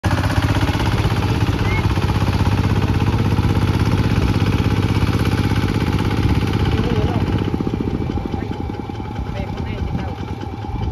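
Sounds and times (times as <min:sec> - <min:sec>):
diesel tractor engine chugging: 0:00.0 - 0:10.9.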